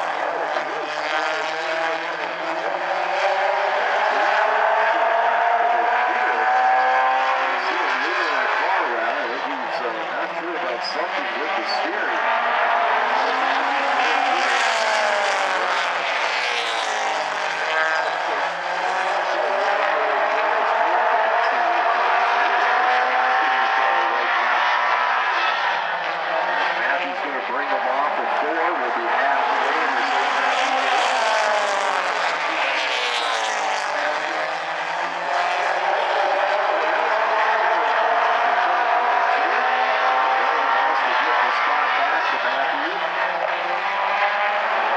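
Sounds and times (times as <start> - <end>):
race car engines passing: 0.0 - 44.9.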